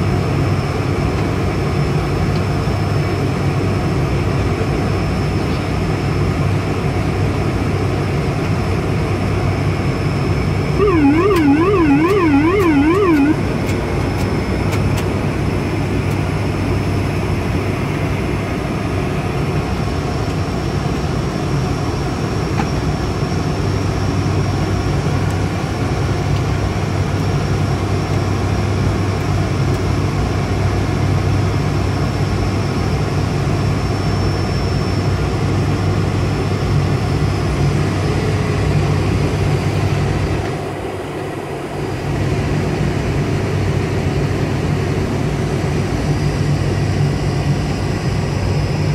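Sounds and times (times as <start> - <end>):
turboprop engine drone: 0.0 - 48.9.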